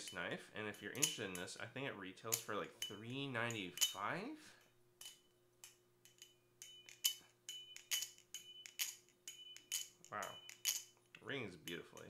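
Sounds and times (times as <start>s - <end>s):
knife ringing: 0.0s - 1.6s, 2.2s - 4.3s, 5.0s - 11.1s.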